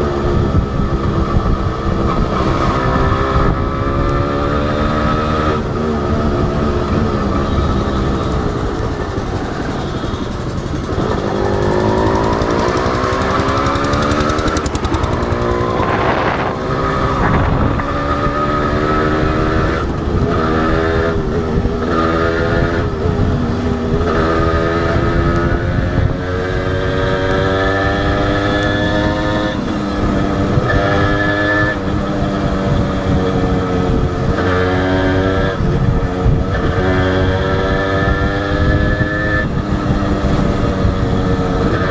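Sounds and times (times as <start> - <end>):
low wind rumble: 0.0 - 41.9
motorcycle engine revving: 0.0 - 41.9.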